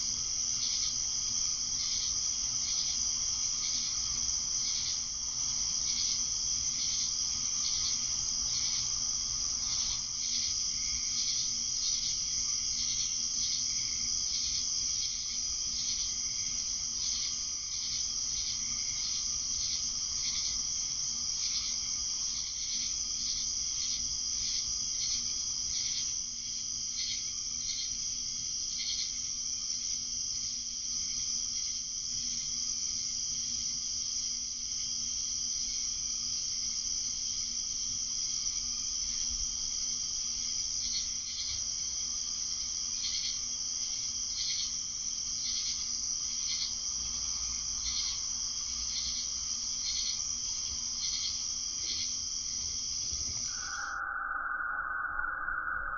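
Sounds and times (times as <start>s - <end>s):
cricket trill: 0.0s - 55.9s
insect chirps: 0.0s - 55.9s.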